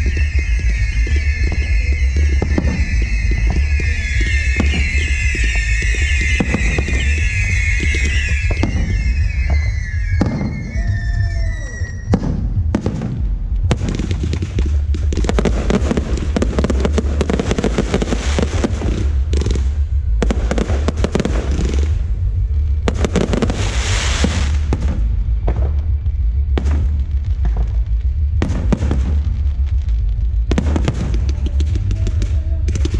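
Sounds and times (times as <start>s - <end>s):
background music: 0.0s - 32.9s
fireworks bursting and crackling: 0.0s - 32.9s.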